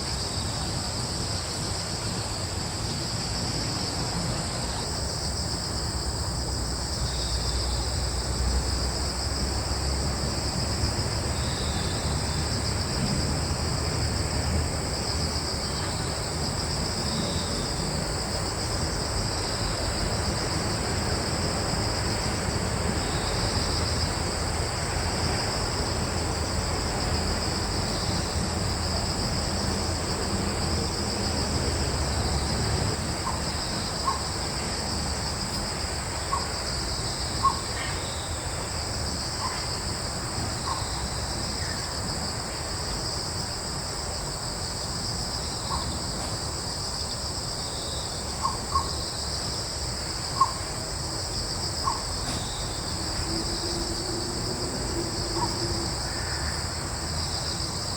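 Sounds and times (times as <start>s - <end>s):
insects trilling: 0.0s - 57.9s
low rumble of breeze: 0.0s - 57.9s.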